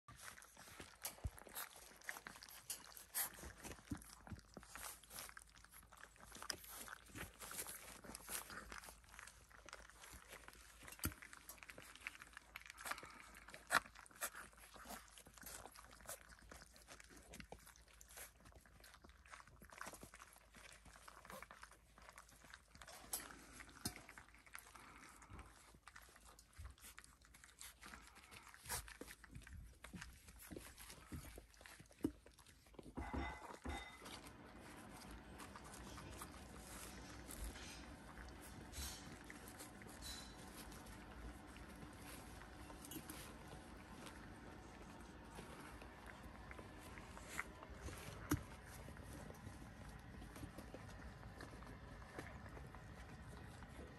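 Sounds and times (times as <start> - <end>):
puppies chewing and smacking: 0.0 - 53.9.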